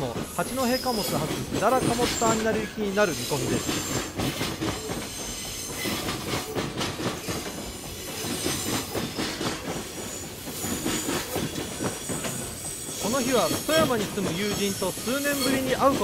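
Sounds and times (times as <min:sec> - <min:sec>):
train wheels clattering over rails: 0:00.0 - 0:16.0
faint high wheel squeal: 0:00.1 - 0:06.6, 0:07.2 - 0:16.0.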